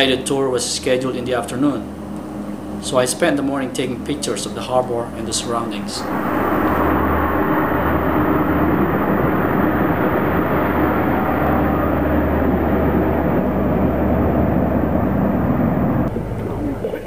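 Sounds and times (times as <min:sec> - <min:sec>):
diesel train engine hum: 0:00.0 - 0:17.0
train rolling noise: 0:00.0 - 0:17.0.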